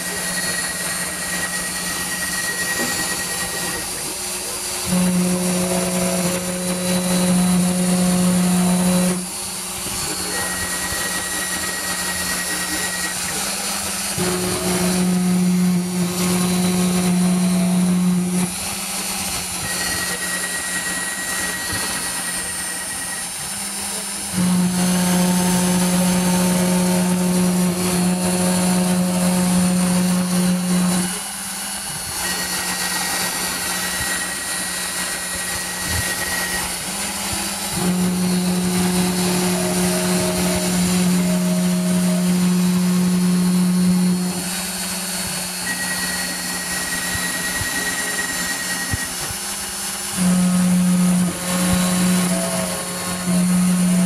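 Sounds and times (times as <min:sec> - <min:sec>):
low machine hum: 0:00.0 - 0:54.0
router spindle high whine: 0:00.0 - 0:54.0.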